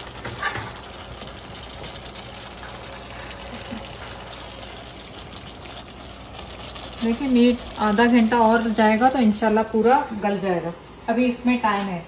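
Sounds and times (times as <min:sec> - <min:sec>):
sauce simmering in a frying pan: 0:00.0 - 0:11.0.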